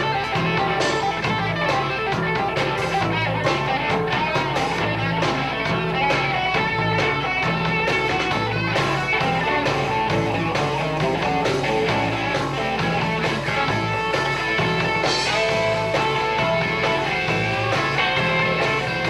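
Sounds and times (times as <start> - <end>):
drums with steady beat: 0.0 - 19.0
electric bass: 0.0 - 19.0
electric guitar: 0.0 - 19.0.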